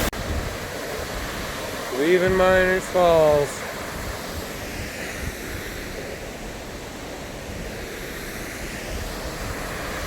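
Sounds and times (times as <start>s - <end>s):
waterfall roaring: 0.0s - 10.0s
wind buffeting microphone: 0.0s - 10.0s.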